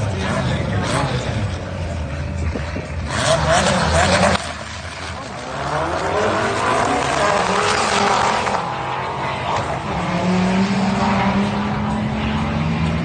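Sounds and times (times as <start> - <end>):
cars accelerating hard: 0.0 - 13.0.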